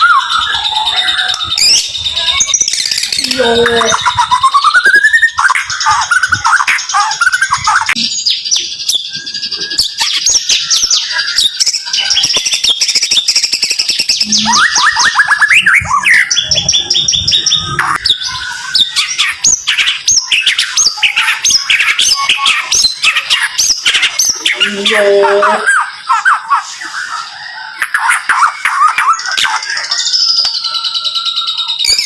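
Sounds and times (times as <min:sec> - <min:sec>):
songbird rapid whistled song: 0:00.0 - 0:32.0.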